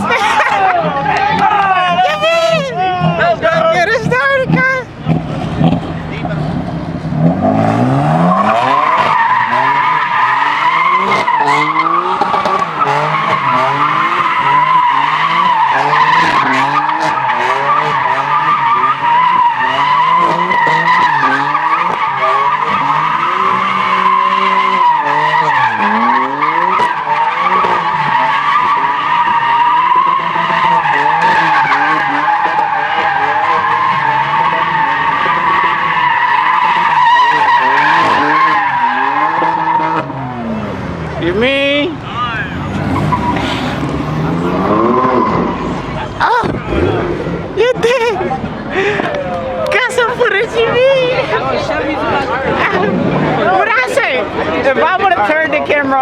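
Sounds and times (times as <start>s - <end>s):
tyres screeching: 0.0s - 55.9s
car engine revving: 0.0s - 56.0s.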